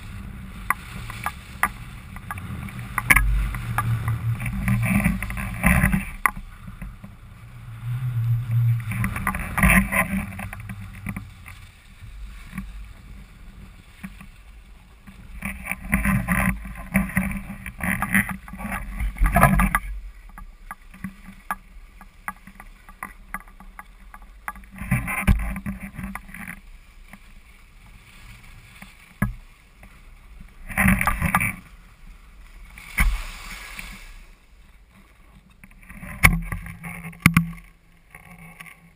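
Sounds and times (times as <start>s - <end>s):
skis scraping over snow: 0.0s - 38.9s
wind rumbling on microphone: 0.0s - 38.9s.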